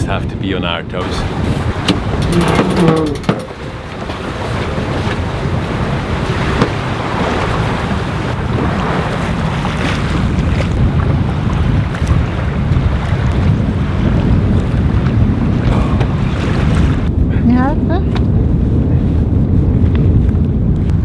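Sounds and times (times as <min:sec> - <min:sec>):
wind buffeting microphone: 0:00.0 - 0:21.0
water rushing past hull: 0:00.9 - 0:17.9.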